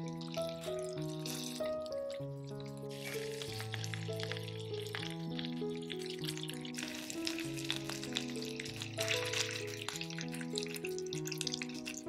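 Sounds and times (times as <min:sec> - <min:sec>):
background music held notes: 0:00.0 - 0:12.0
chicken frying in oil: 0:00.0 - 0:12.0.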